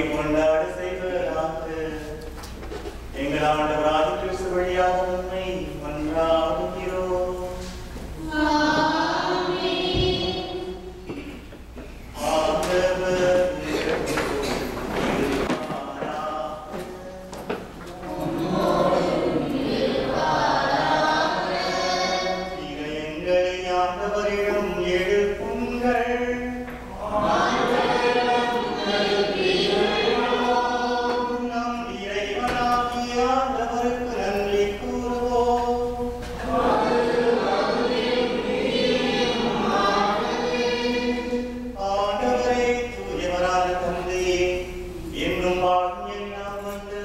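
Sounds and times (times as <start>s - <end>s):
group singing a hymn: 3.2s - 47.0s.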